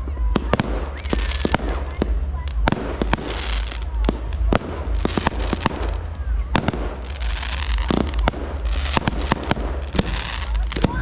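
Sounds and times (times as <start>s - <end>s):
fireworks bangs and crackling: 0.0s - 11.0s
low rumble: 0.0s - 11.0s.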